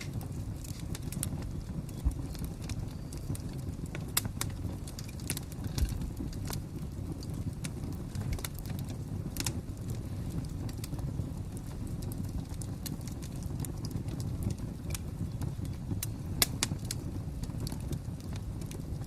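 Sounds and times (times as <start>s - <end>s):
fire crackling: 0.0s - 19.0s
steady low rumble: 0.0s - 19.0s.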